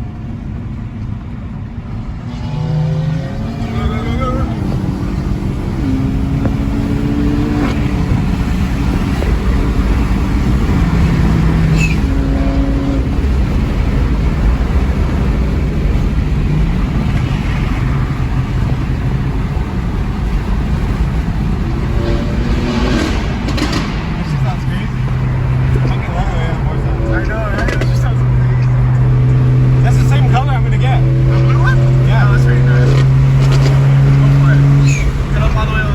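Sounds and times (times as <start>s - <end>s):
car engine running: 0.0s - 35.9s
road and wind noise: 0.0s - 35.9s.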